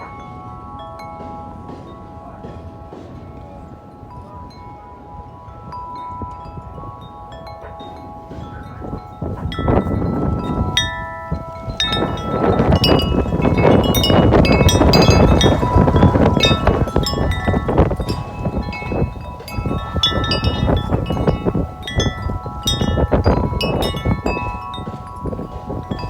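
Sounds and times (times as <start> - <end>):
metal wind chime ringing: 0.0 - 26.0
wind rushing over microphone: 0.0 - 26.0.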